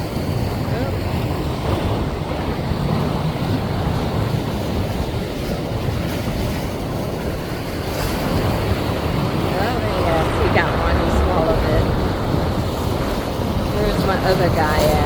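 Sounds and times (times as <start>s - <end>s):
ocean surf on shore: 0.0s - 15.0s
wind buffeting microphone: 0.0s - 15.0s.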